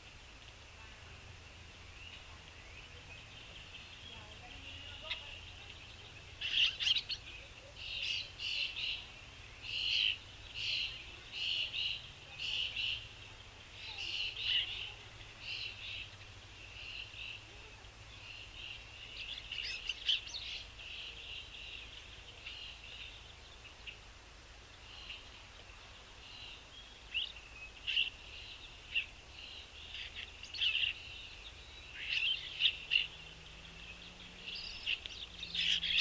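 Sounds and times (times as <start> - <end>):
small songbirds chirping: 0.0 - 36.0.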